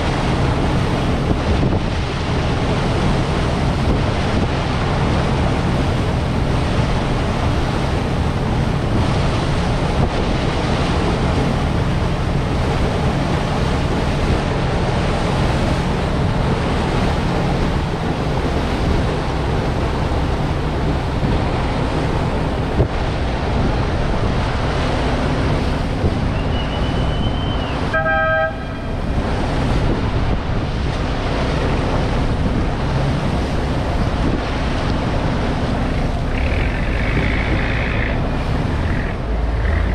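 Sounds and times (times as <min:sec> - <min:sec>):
boat engine running: 0:00.0 - 0:39.9
water along a hull: 0:00.0 - 0:39.9
wind on the microphone: 0:00.0 - 0:39.9.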